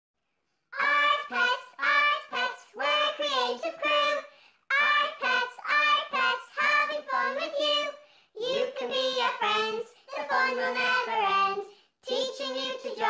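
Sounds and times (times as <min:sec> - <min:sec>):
child-like voice singing: 0:00.8 - 0:13.0.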